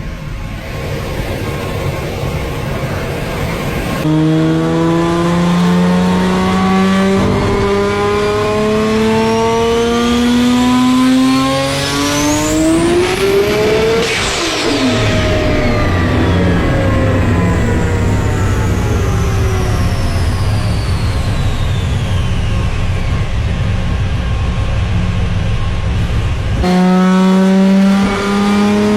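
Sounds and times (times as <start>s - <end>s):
car engine accelerating: 0.0s - 28.9s
rushing noise: 0.0s - 28.9s
turbo whine: 0.0s - 28.9s.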